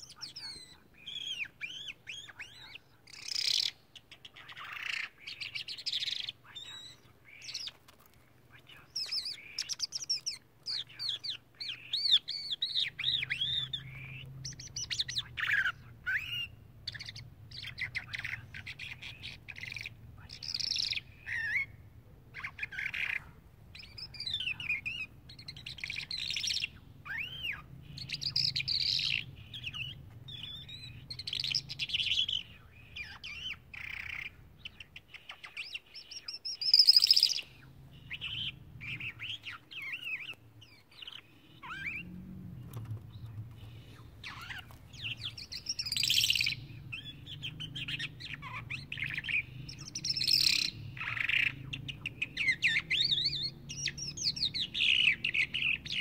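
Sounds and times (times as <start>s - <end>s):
lark singing: 0.0s - 7.8s, 8.4s - 56.0s.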